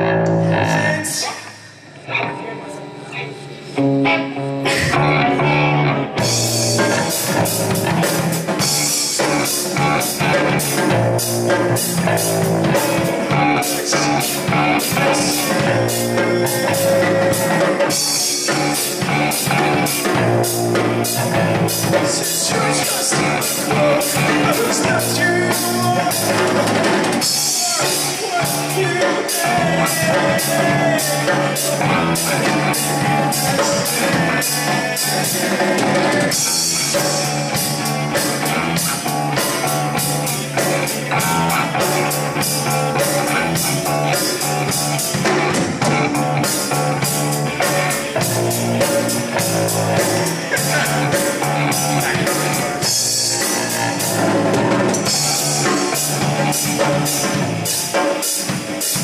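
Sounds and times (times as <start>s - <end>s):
electric guitar: 0.0s - 59.0s
live rock band playing: 0.0s - 59.0s
person singing: 0.0s - 59.0s
drum kit steady beat: 6.2s - 59.0s.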